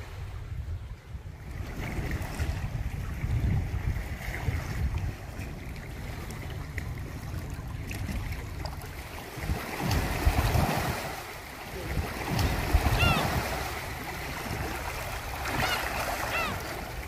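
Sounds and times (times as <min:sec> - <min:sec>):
waves lapping around rocks: 0:00.0 - 0:17.0
wind buffeting microphone: 0:00.0 - 0:17.0.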